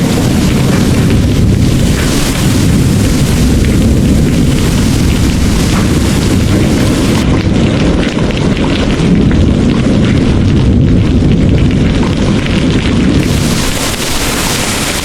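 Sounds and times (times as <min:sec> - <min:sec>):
distant rolling thunder: 0:00.0 - 0:15.0
heavy rain pouring: 0:00.0 - 0:15.0.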